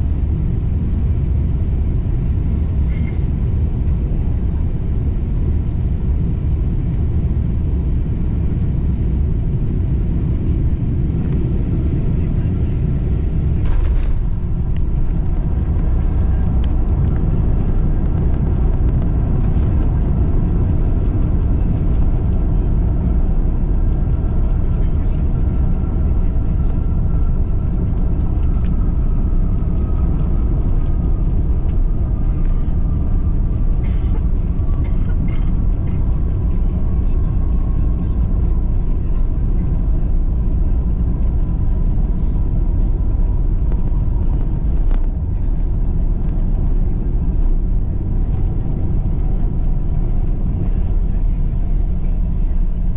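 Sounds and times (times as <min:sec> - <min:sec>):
aircraft cabin engine rumble: 0:00.0 - 0:52.9.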